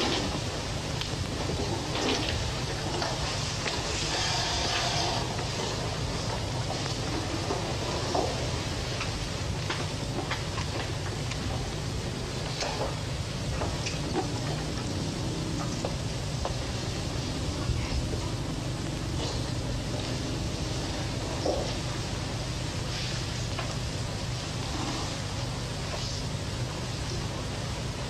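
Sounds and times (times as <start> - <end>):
faint clicks and rustles: 0.0 - 28.0
television recording hiss and hum: 0.0 - 28.0.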